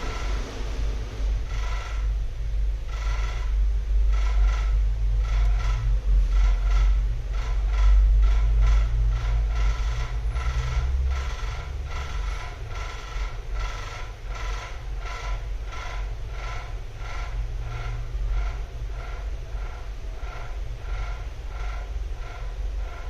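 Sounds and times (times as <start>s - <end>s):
low rumble: 0.0s - 23.0s
rhythmic mechanical clicking: 0.0s - 23.0s.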